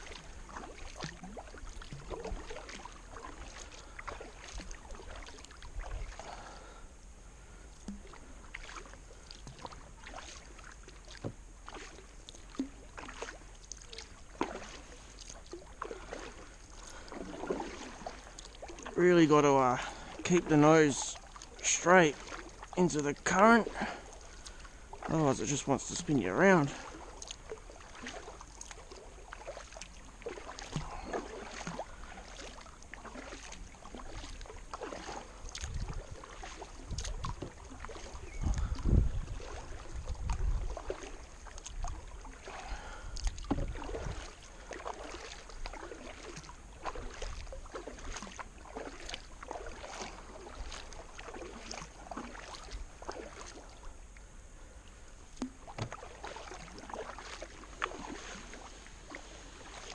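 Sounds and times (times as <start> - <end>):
paddle splashing in water: 0.0 - 59.9.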